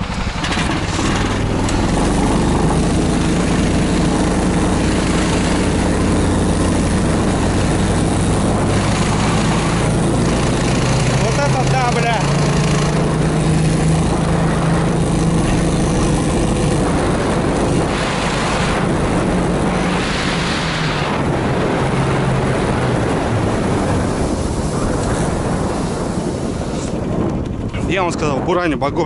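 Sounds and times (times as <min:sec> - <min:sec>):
snowmobile engine drone: 0:00.0 - 0:29.0
snowmobile track noise: 0:00.0 - 0:29.0
wind: 0:00.0 - 0:29.0.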